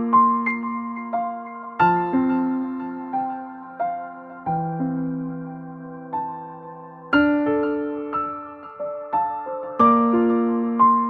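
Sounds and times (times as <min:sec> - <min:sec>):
slow keyboard music: 0:00.0 - 0:11.0.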